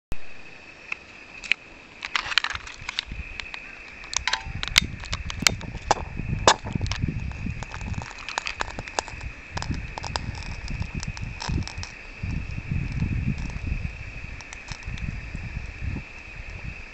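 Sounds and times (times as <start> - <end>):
low rumbling noise: 2.6 - 16.9.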